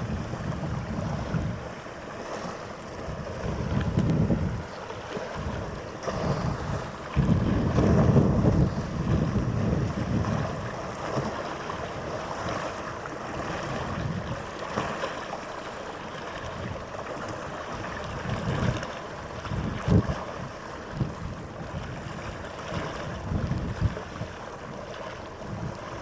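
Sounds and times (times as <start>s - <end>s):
wind buffeting microphone: 0.0s - 15.0s, 17.7s - 26.0s
waterside hiss: 0.0s - 26.0s.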